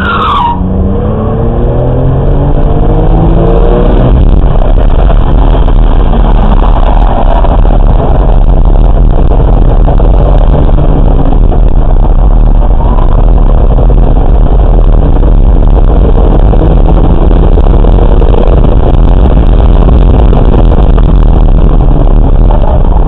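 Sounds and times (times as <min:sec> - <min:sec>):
racing car engine: 0:00.0 - 0:23.0.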